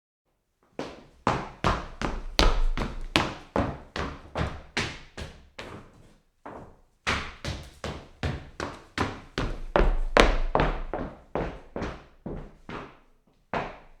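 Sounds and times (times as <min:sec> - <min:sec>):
footsteps on wooden floor: 0:00.8 - 0:13.9.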